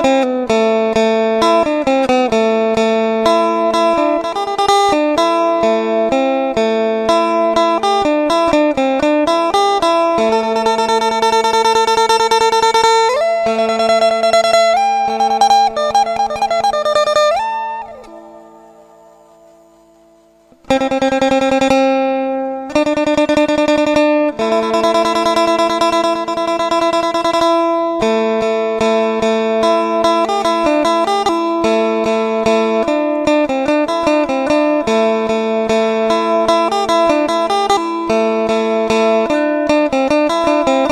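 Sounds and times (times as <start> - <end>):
plucked lute melody over drone: 0.0 - 40.9.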